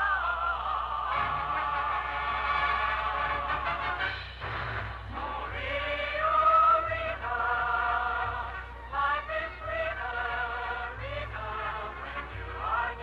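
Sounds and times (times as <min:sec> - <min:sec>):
choir singing with orchestra: 0:00.0 - 0:13.0
low steady hum: 0:00.0 - 0:13.0.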